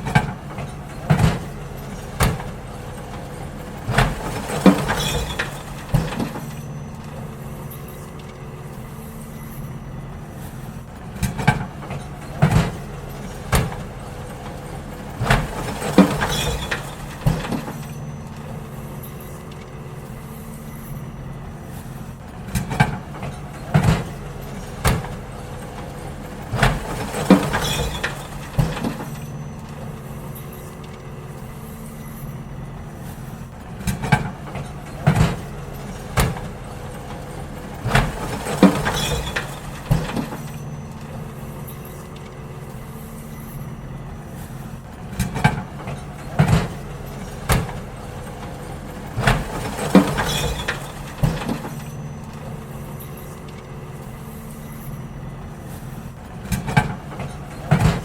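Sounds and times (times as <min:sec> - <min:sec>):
bins clattering bangs: 0:00.0 - 0:58.0
diesel truck engine running: 0:00.0 - 0:58.0.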